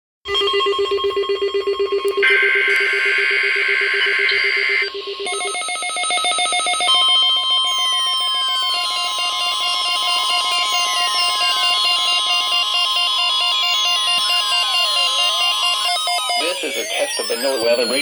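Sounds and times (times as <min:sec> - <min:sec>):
high steady electronic tones: 0:00.3 - 0:18.0
pulsing electronic beeps: 0:00.3 - 0:18.0
trilling electronic ring tone: 0:00.3 - 0:18.0.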